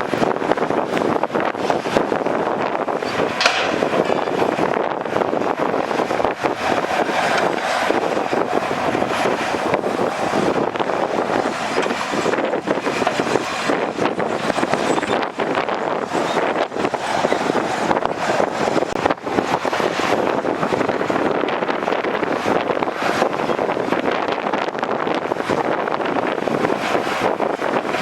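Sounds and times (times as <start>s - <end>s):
bulldozer engine running: 0.0s - 28.0s.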